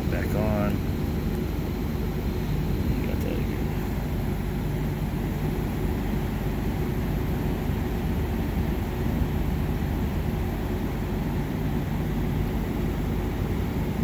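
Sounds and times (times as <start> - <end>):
air conditioner unit droning: 0.0 - 14.0.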